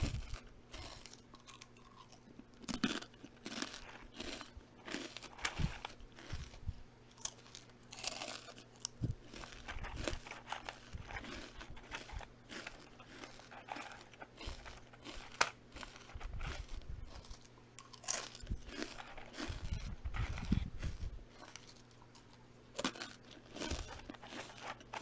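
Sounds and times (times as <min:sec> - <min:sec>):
crunching and chewing crisp food: 0:00.0 - 0:25.0.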